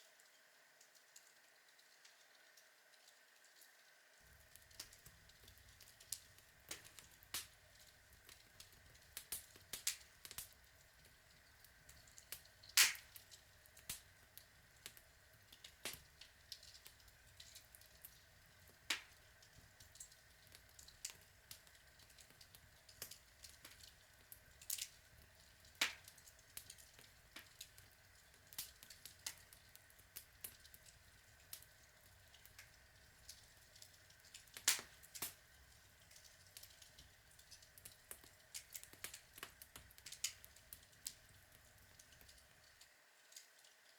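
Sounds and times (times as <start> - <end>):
log fire crackling and popping: 4.2 - 43.9.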